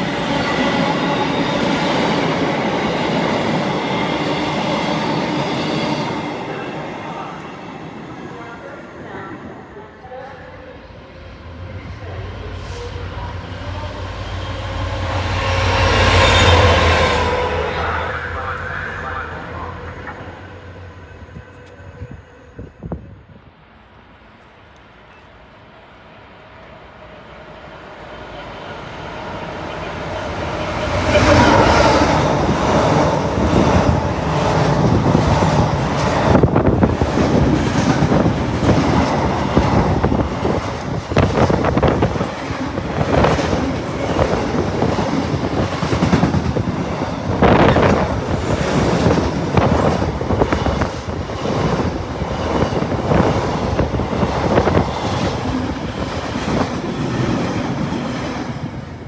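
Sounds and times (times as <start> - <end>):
train rumbling past: 0.0 - 59.0.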